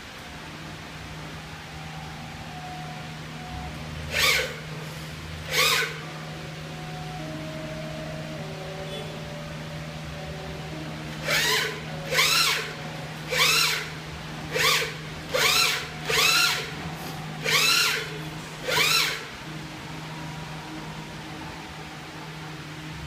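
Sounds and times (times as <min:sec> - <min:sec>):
gantry motors whining: 0:00.0 - 0:23.0
low machine hum: 0:00.0 - 0:23.0.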